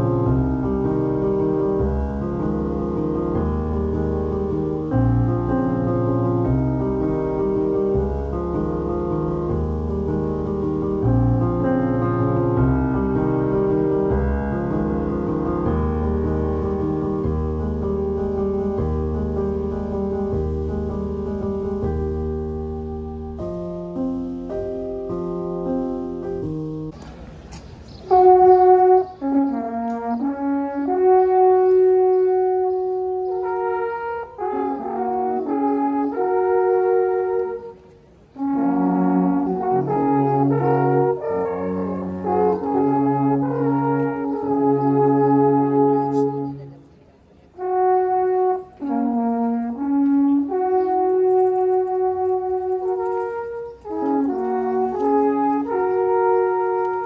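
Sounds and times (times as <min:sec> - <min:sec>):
slow melody of held notes: 0:00.0 - 0:26.9, 0:28.1 - 0:47.0, 0:47.6 - 0:57.0.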